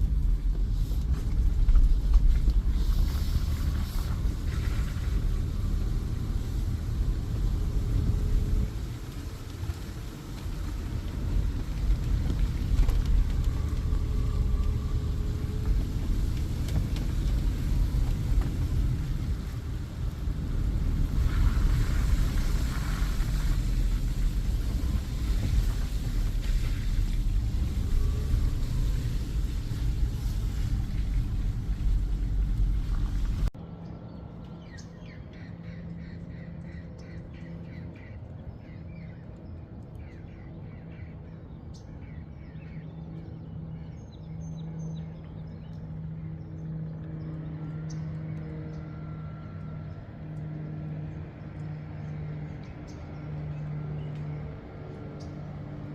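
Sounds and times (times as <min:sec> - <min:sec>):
low rumble with hiss: 0:00.0 - 0:55.9.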